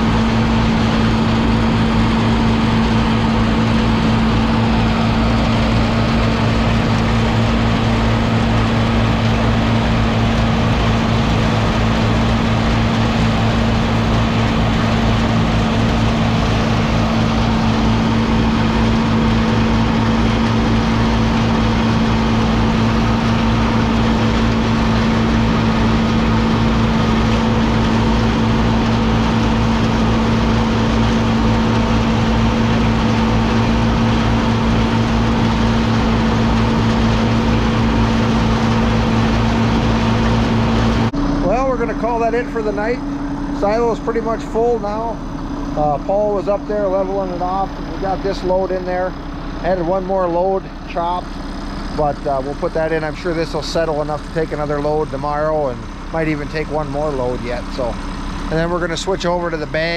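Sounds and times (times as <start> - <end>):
silage blower droning: 0.0 - 59.9.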